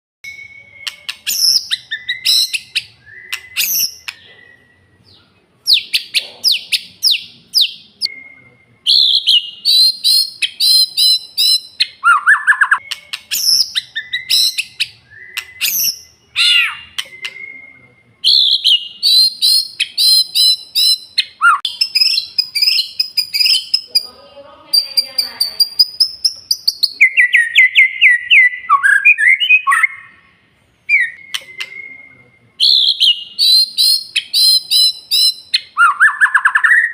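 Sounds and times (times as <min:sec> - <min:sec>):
bird singing whistles and trills: 0:00.2 - 0:23.9, 0:24.8 - 0:36.9.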